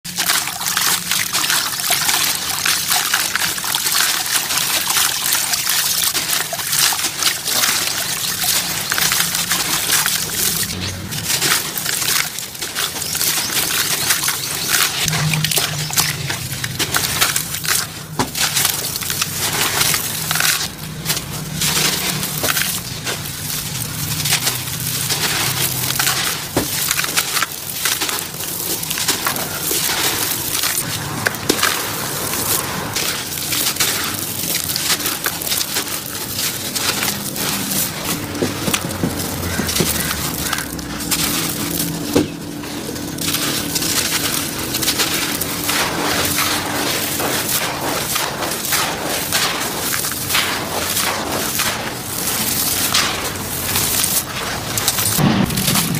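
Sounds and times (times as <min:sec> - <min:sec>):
gritty lumps crunching: 0:00.0 - 0:55.9.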